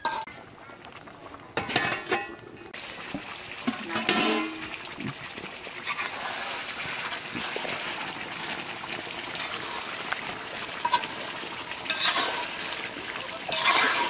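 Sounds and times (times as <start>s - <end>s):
food cooking in a pot: 0.0s - 14.0s.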